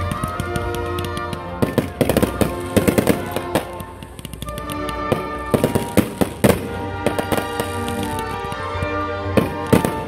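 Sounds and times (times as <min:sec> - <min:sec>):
fireworks bangs and crackles: 0:00.0 - 0:10.0
music: 0:00.0 - 0:10.0.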